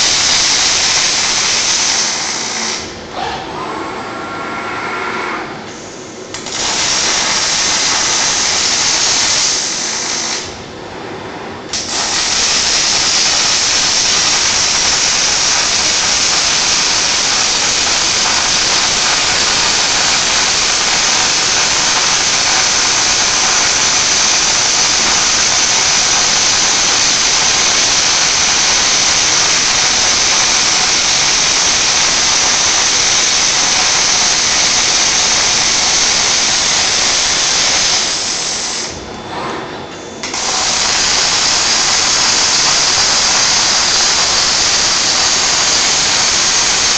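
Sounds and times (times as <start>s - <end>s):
arc welder hissing: 0.0s - 3.0s, 5.7s - 10.6s, 11.7s - 39.0s, 40.2s - 46.9s.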